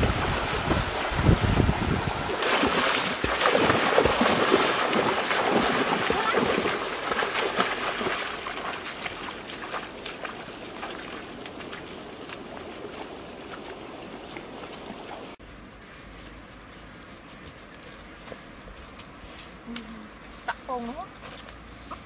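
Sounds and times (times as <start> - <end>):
grass and reeds rustling: 0.0 - 22.0.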